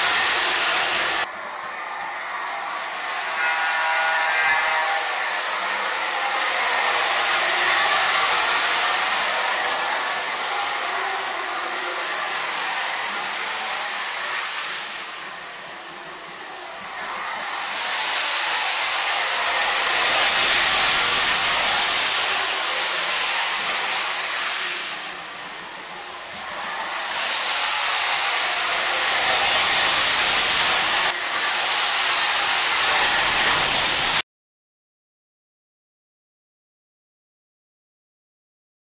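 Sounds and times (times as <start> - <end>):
jet engine whooshing roar: 2.0 - 34.2.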